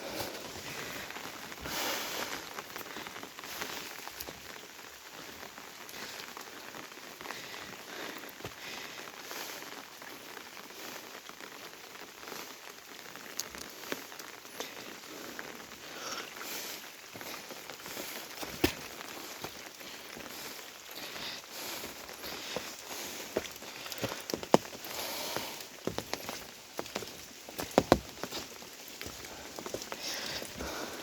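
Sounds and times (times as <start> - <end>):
raindrops ticking: 0.0 - 31.0
steady rain: 0.0 - 31.0.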